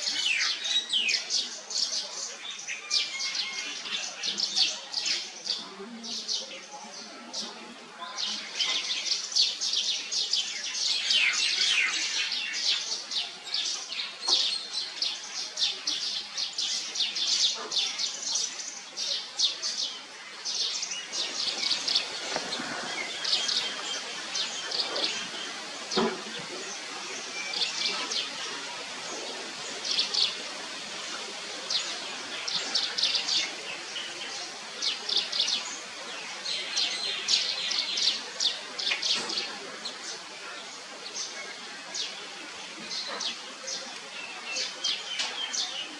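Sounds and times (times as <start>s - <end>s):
small birds chirping: 4.3s - 45.9s.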